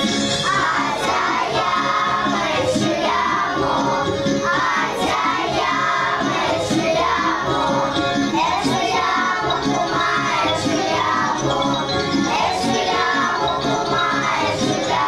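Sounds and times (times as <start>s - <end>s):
instrumental accompaniment: 0.0s - 15.0s
children singing in unison: 0.4s - 15.0s.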